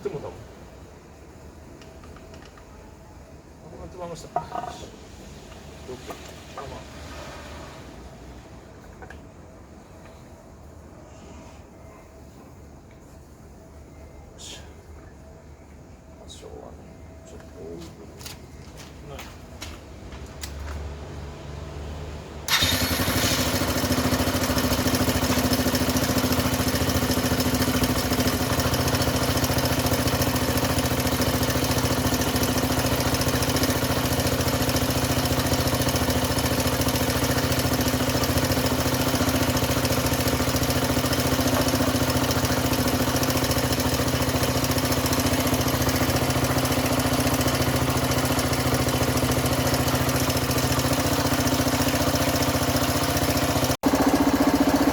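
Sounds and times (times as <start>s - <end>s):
motorcycle engine starting and idling: 0.0s - 2.8s, 4.1s - 10.4s, 19.5s - 54.9s.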